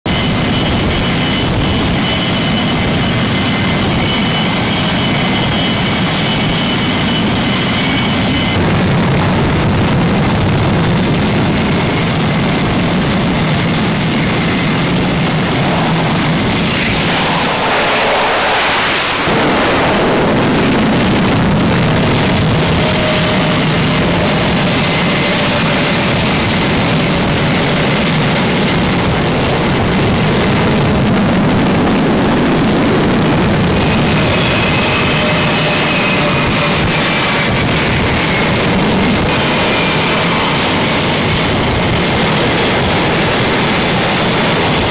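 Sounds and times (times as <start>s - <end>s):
jet engines roaring: 0.0s - 44.9s
high turbine whine: 0.1s - 44.9s.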